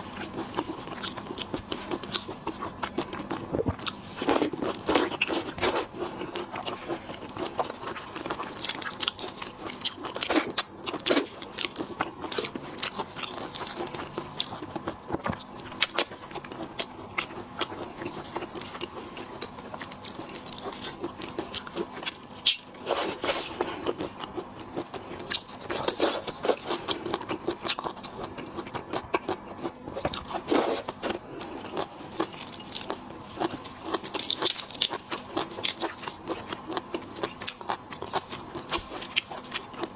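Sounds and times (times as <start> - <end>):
chewing: 0.0 - 39.9
crunching shellfish shells: 0.2 - 39.9.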